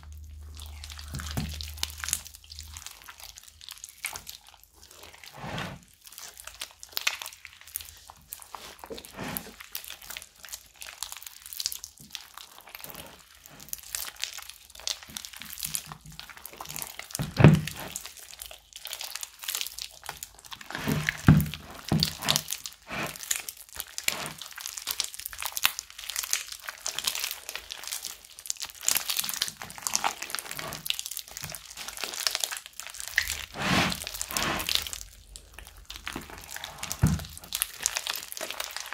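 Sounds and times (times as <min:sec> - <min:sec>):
slime squelching in water: 0:00.0 - 0:38.9.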